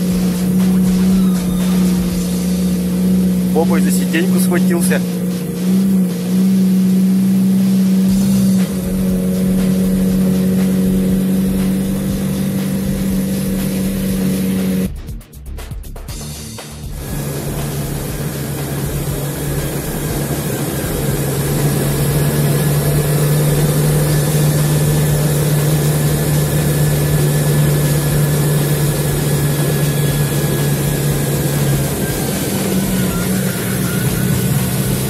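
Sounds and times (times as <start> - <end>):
vehicle engine driving fast: 0.0 - 35.0.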